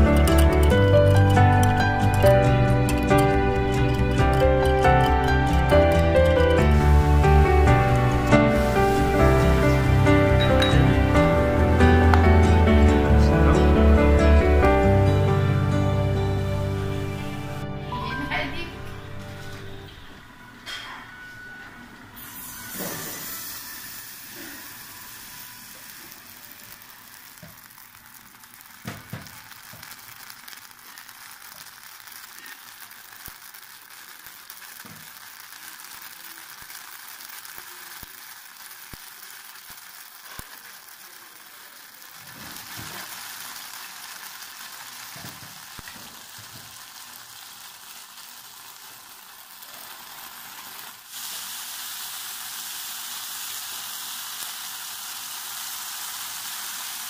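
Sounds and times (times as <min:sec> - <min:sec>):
batter sizzling in frying pan: 0:00.0 - 0:57.0.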